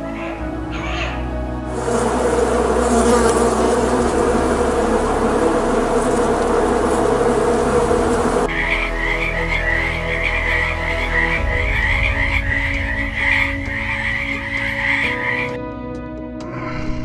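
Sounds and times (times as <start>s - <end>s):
bees buzzing: 0.0s - 15.6s.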